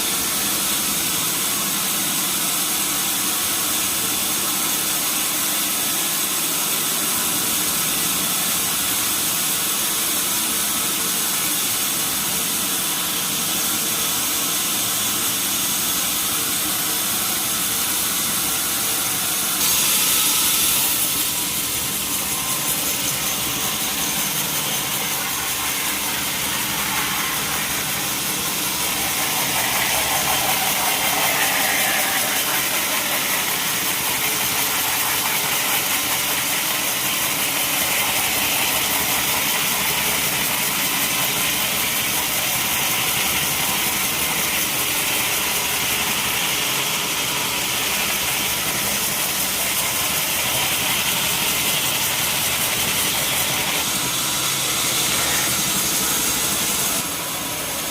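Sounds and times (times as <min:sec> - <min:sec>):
sawmill saw and engine running: 0:00.0 - 0:57.9.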